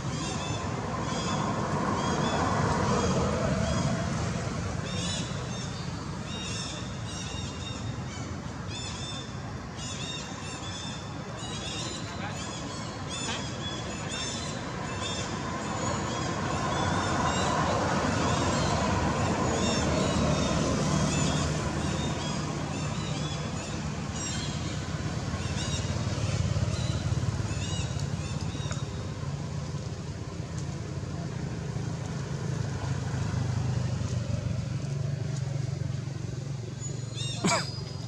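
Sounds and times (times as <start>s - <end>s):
road traffic engine drone: 0.0s - 38.0s.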